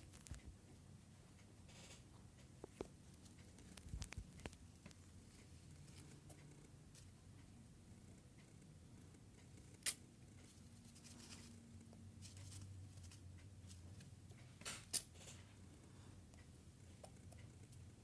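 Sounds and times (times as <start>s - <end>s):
faint ticks and rustles: 0.0s - 14.6s.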